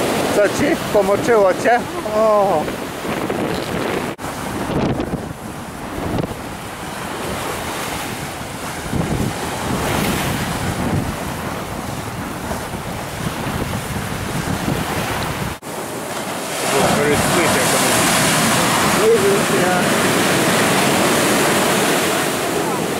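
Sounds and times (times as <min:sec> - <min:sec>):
ocean surf washing onto beach: 0:00.0 - 0:22.9
wind buffeting microphone: 0:00.0 - 0:22.9.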